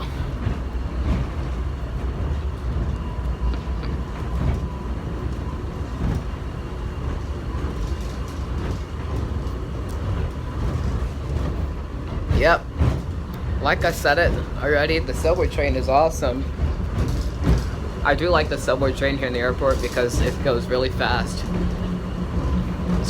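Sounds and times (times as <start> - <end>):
subway train rumbling on track: 0.0 - 23.0.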